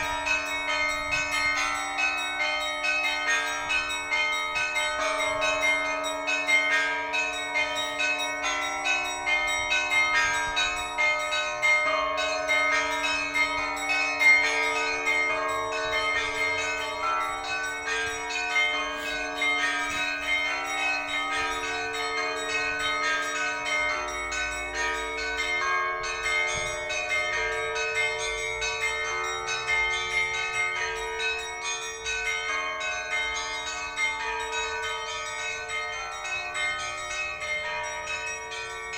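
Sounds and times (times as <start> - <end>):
hum of large bells: 0.0 - 38.9.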